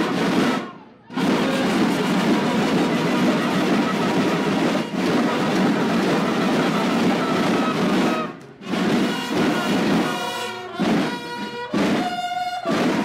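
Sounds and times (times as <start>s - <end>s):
bugle notes: 0.0s - 13.0s
rapid snare drumming: 0.0s - 13.0s.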